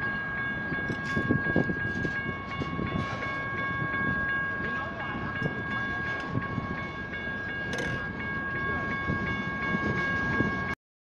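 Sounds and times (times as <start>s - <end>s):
crossing bell dinging: 0.0s - 10.8s
freight train rumbling and clacking: 0.0s - 10.8s.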